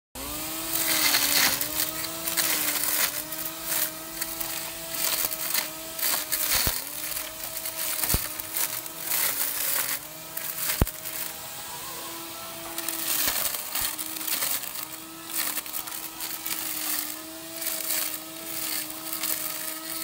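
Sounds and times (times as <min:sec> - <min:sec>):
electric grass trimmer whine: 0:00.2 - 0:20.0
leaves rustling and crackling: 0:00.2 - 0:20.0.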